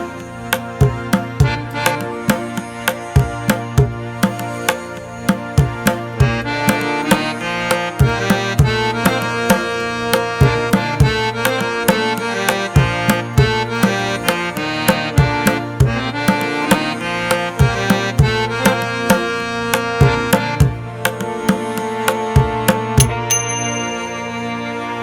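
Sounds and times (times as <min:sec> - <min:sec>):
drum beat: 0:00.0 - 0:07.4, 0:08.0 - 0:09.6, 0:10.2 - 0:17.0, 0:17.6 - 0:23.4
plucked melodic instruments: 0:00.0 - 0:25.0.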